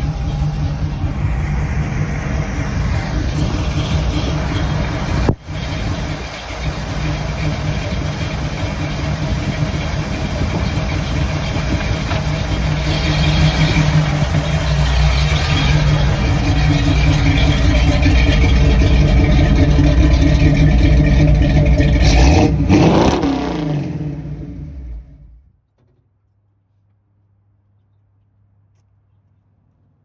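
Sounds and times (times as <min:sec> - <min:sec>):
car engine running: 0:00.0 - 0:25.4.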